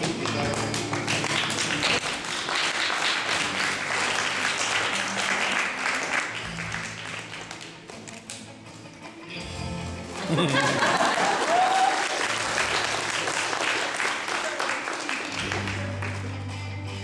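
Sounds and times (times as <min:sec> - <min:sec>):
audience applauding: 0:00.0 - 0:08.3, 0:10.0 - 0:16.5
background music: 0:00.0 - 0:17.0.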